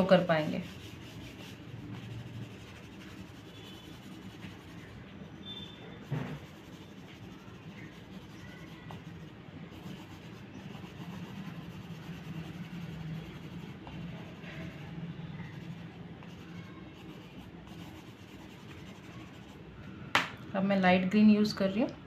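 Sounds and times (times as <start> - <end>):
crayon rubbing on paper: 0.0 - 19.6.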